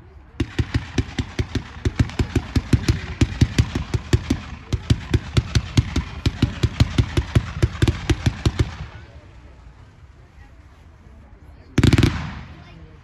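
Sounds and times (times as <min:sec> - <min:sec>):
firework cake firing volley: 0:00.4 - 0:09.6, 0:11.7 - 0:13.0.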